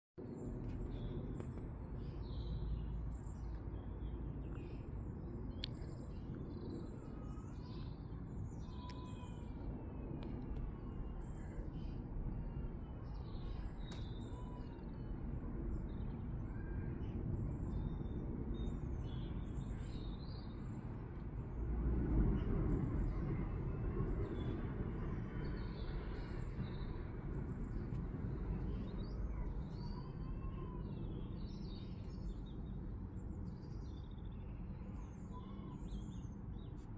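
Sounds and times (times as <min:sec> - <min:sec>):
low background rumble: 0:00.2 - 0:36.9
small birds chirping: 0:00.3 - 0:21.3, 0:22.2 - 0:36.9.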